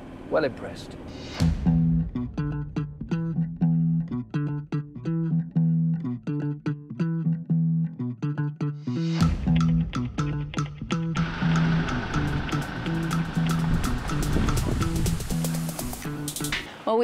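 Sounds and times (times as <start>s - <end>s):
plucked string music: 1.6s - 16.6s.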